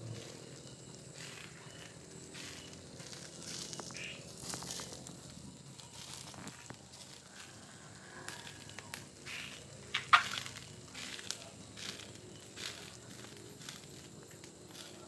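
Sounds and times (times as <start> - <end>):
clams sizzling on grill: 0.0 - 15.0
fire popping: 0.0 - 15.0.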